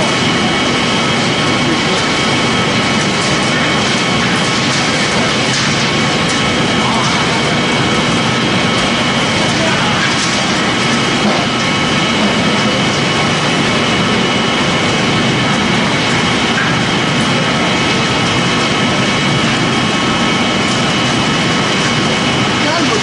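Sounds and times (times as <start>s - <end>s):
pellet machine running: 0.0s - 23.0s.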